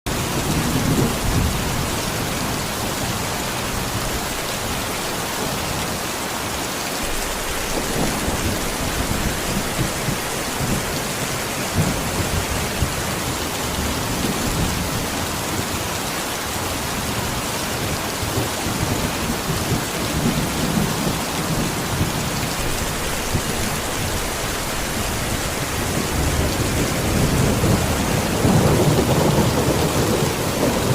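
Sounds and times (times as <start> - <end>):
heavy rain hissing: 0.1 - 30.9.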